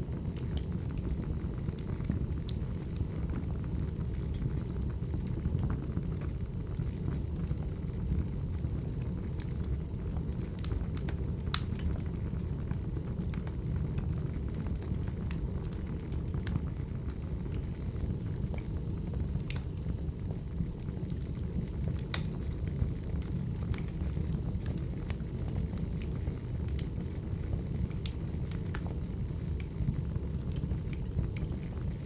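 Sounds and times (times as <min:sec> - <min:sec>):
fire crackles and pops: 0:00.0 - 0:32.0
low rumble of flames: 0:00.0 - 0:32.0.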